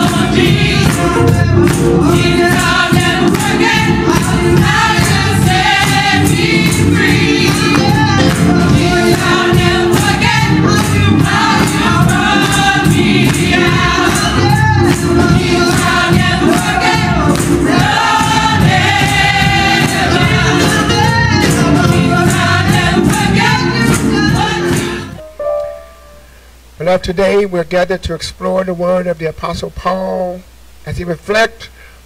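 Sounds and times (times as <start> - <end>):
gospel choir singing: 0.0 - 26.2
band with steady beat: 0.0 - 26.5.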